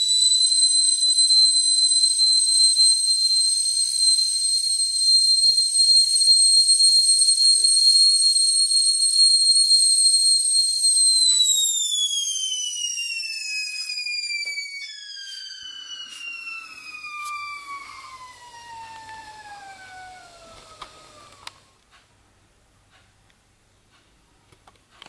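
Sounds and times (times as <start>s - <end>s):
kettle whistle gliding down: 0.0s - 21.8s.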